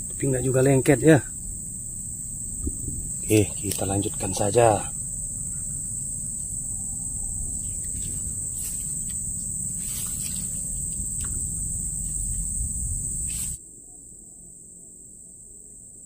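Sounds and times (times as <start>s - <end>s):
low rumble: 0.0s - 13.6s
insects droning: 0.0s - 16.0s.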